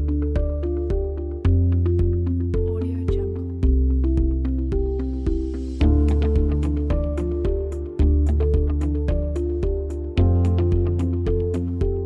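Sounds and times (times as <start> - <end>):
background music with strong bass beat: 0.0 - 12.0.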